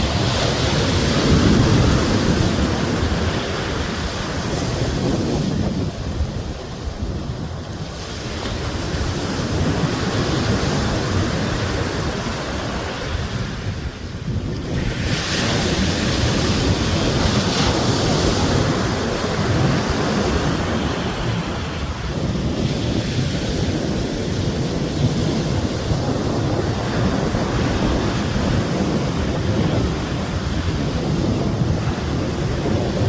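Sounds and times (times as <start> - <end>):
sea waves breaking: 0.0 - 33.0
wind on microphone: 0.0 - 33.0.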